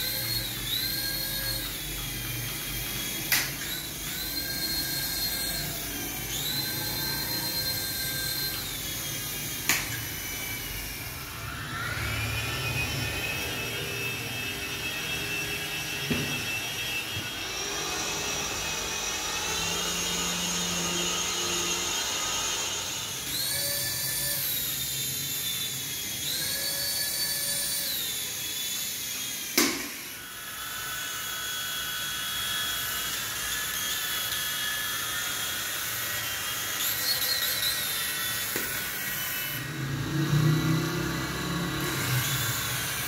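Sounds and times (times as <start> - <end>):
toy helicopter motors whining: 0.0 - 43.0.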